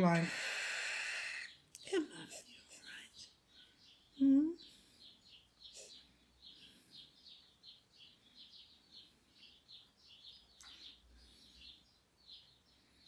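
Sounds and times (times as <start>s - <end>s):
chicks softly chirping: 0.0s - 13.0s.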